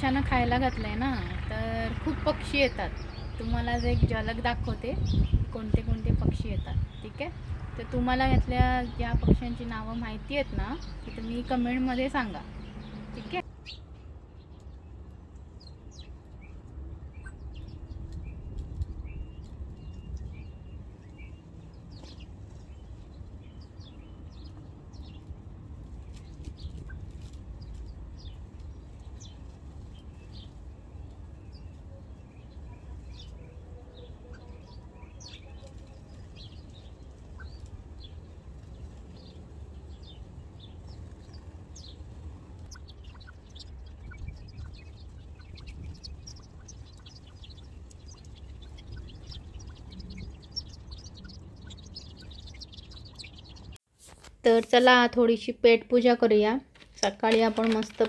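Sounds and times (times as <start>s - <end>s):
steady low rumble: 0.0s - 53.8s
small birds chirping: 0.0s - 58.0s.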